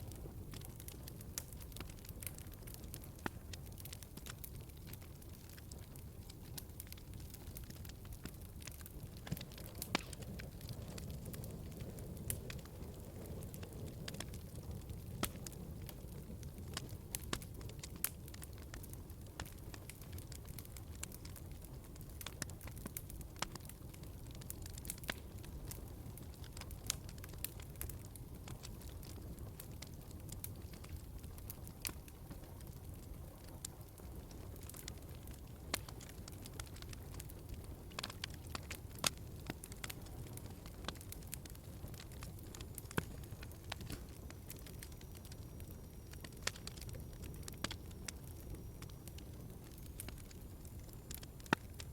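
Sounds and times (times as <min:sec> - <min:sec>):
log fire crackling and popping: 0:00.0 - 0:51.9
low rumble of flames: 0:00.0 - 0:51.9.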